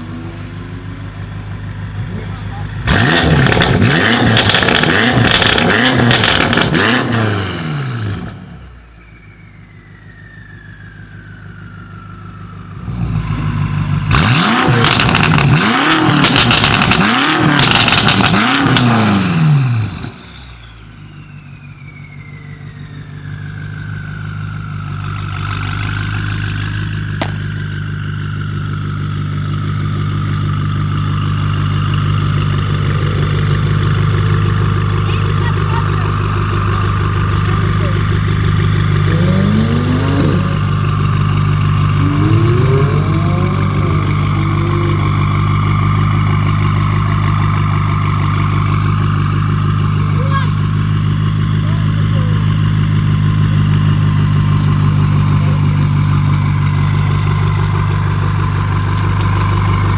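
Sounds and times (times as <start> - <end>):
car engine revving with pops: 0.0 - 9.1, 12.8 - 21.2, 23.4 - 59.9
car engine idling: 0.0 - 59.9.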